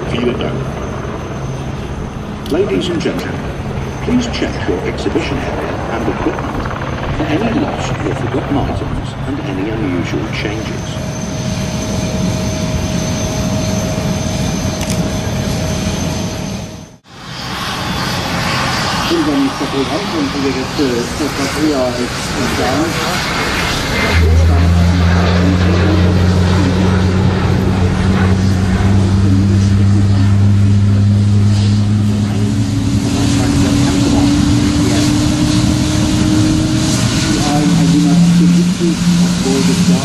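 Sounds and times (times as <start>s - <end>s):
jet engines roaring at takeoff: 0.0s - 40.0s.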